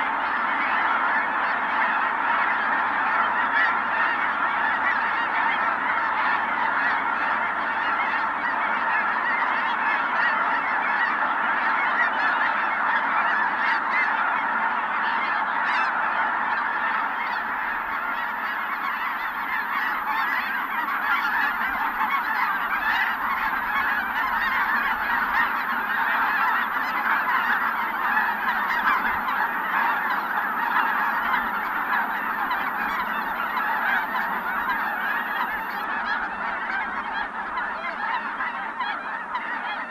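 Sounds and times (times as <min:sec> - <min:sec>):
flock of geese honking: 0:00.0 - 0:39.9.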